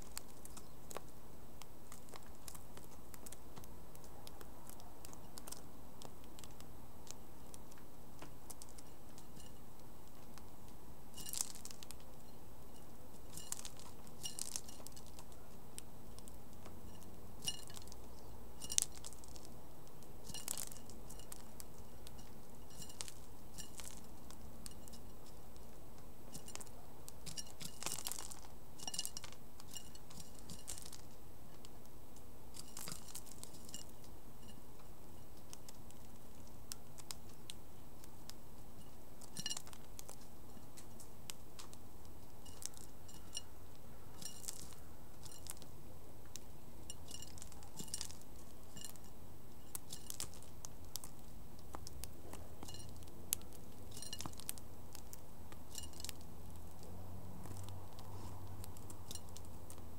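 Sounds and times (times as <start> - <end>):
background hiss: 0.0 - 59.9
birds pecking and cracking seed: 0.0 - 59.9.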